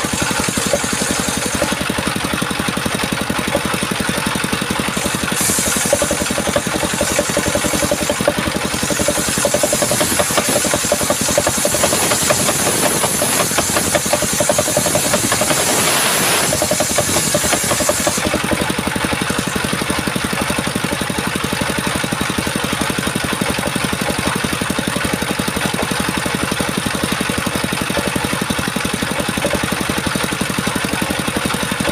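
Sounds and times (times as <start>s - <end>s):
chainsaw engine idling: 0.0s - 31.9s.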